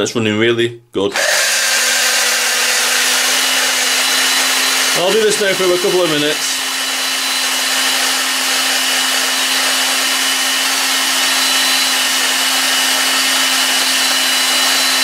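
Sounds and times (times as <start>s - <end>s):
electric drill running: 1.1s - 15.0s.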